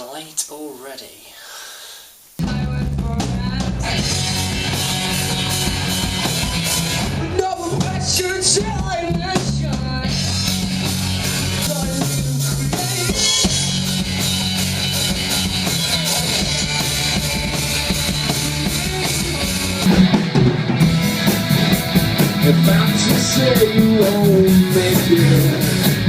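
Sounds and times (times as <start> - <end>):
rock music: 2.4 - 26.0.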